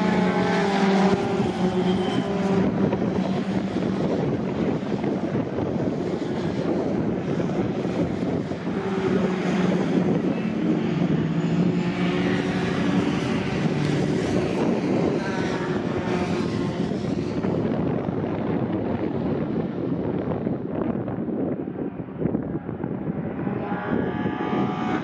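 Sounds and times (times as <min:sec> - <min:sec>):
truck engines racing: 0:00.0 - 0:25.0
wind buffeting microphone: 0:00.0 - 0:25.0.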